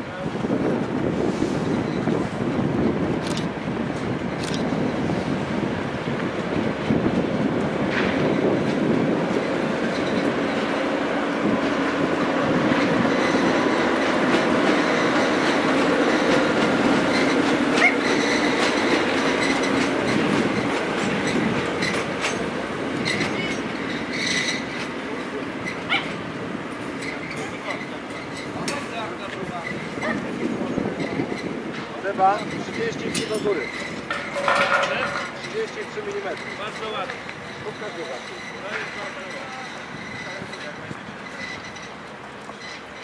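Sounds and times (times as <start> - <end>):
wheels clattering over rails: 6.4 - 43.0.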